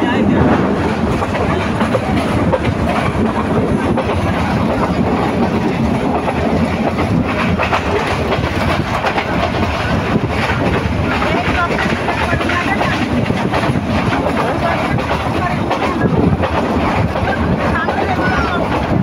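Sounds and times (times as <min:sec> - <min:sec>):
train wheels rumbling and rattling: 0:00.0 - 0:19.0.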